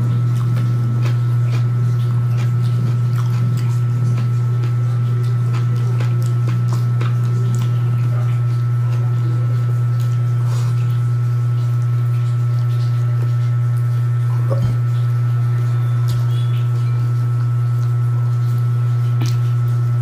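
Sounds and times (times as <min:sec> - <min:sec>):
steady low hum: 0:00.0 - 0:20.0
wet chewing clicks: 0:00.0 - 0:20.0.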